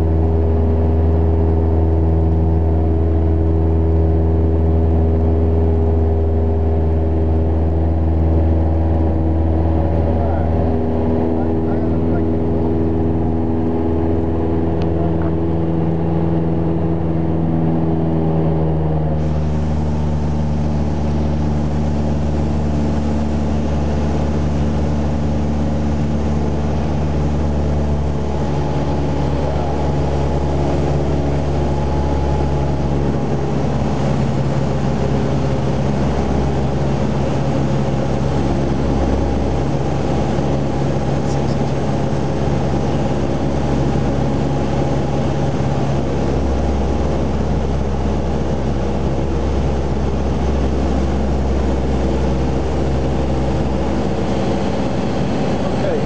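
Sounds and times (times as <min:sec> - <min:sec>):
airplane engine and propeller droning: 0:00.0 - 0:56.0.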